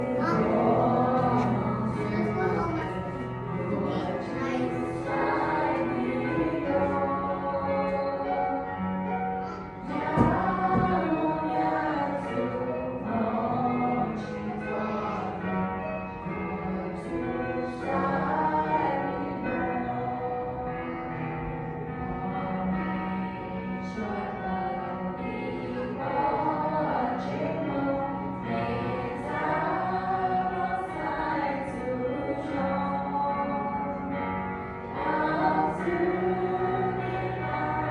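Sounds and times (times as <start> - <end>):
choir singing in harmony: 0.0 - 37.9.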